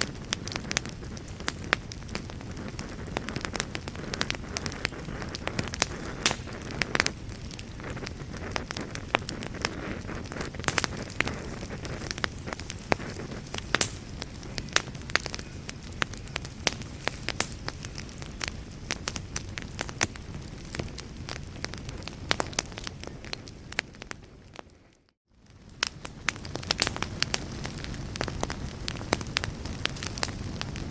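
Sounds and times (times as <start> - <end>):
low rumble of flames: 0.0 - 30.9
wood fire crackling: 0.0 - 30.9.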